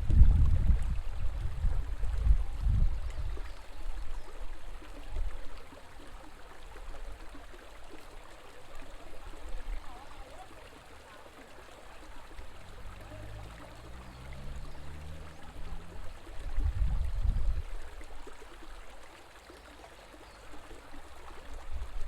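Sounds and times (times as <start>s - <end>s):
river water rushing: 1.1s - 22.0s.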